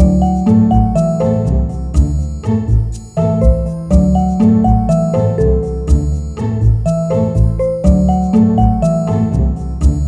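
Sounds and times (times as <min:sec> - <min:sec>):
background music with bass: 0:00.0 - 0:10.0.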